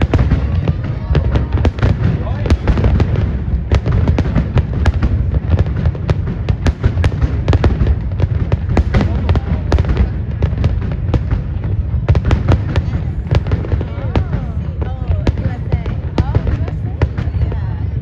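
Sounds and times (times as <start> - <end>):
fireworks cracks and bangs: 0.0 - 18.0
low rumble of booming shells: 0.0 - 18.0.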